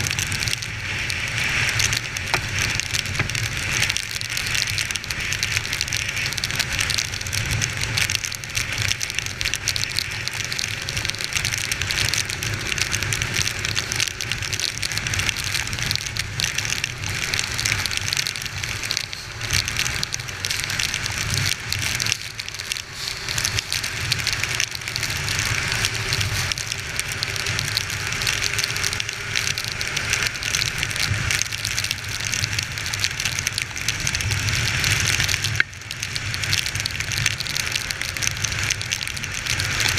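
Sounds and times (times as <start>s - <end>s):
heavy rain and wind hiss: 0.0s - 39.9s.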